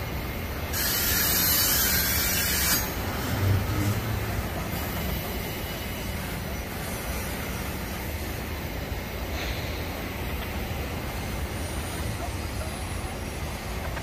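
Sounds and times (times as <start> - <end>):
freight train rumbling: 0.0 - 14.0
loud hiss: 0.5 - 13.9.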